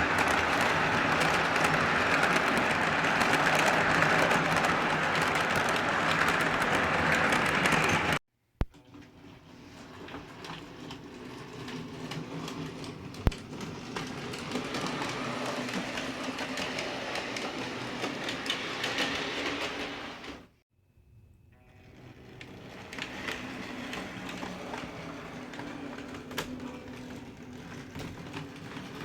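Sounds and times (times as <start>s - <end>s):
model train rumbling: 0.0s - 8.2s, 9.5s - 20.6s, 21.6s - 29.0s.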